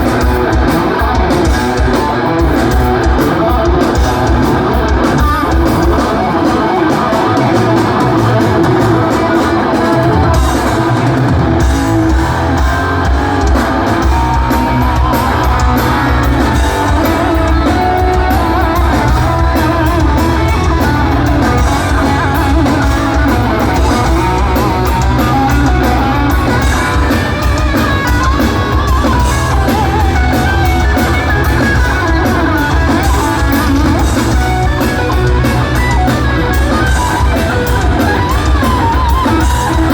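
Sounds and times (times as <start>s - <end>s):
heavy metal band playing: 0.0s - 39.9s.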